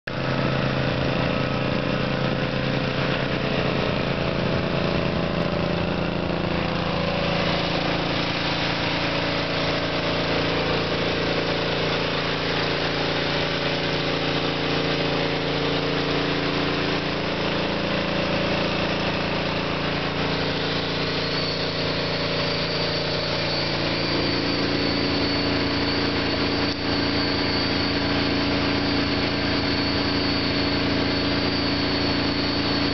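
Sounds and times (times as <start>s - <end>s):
engine idling: 0.1s - 32.9s
thin high whine: 0.1s - 32.9s.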